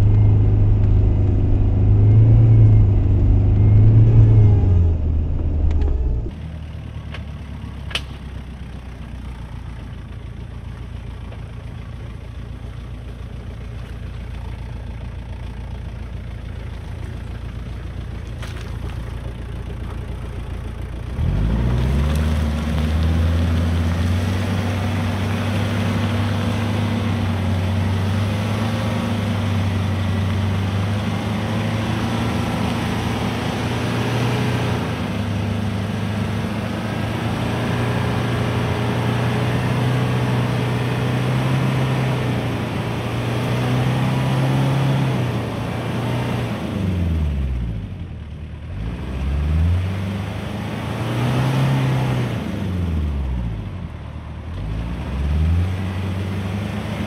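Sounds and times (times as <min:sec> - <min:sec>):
diesel engine revving under load: 0:00.0 - 0:06.8, 0:15.9 - 0:57.0.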